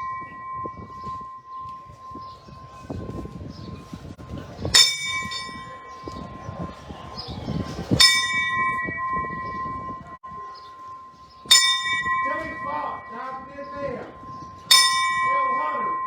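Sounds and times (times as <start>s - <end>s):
bell ringing: 0.0s - 16.0s.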